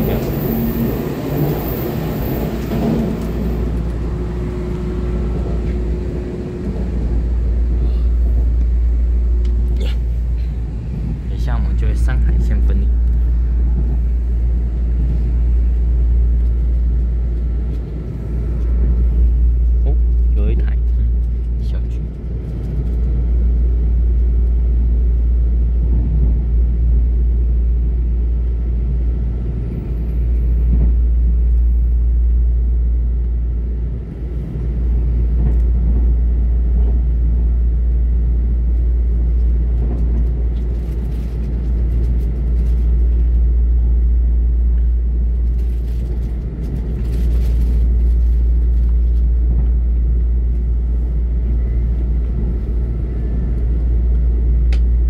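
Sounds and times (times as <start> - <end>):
train wheels running on rails: 0.0 - 55.0.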